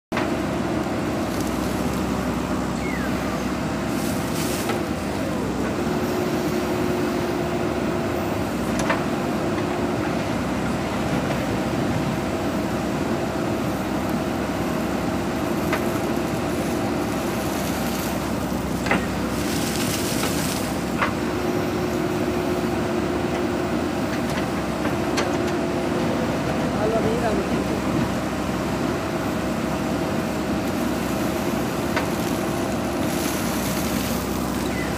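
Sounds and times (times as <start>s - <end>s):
diesel engine under load: 0.1s - 34.9s.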